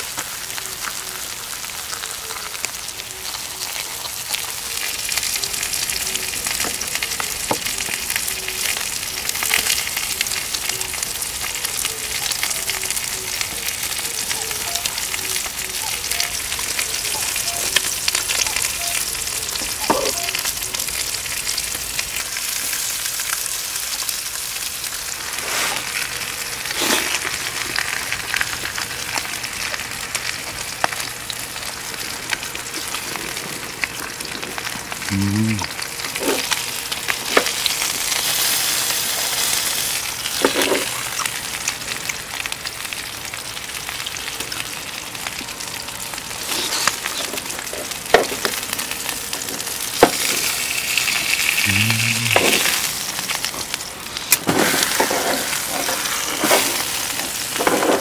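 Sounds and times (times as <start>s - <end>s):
steak sizzling on griddle: 0.0s - 58.0s.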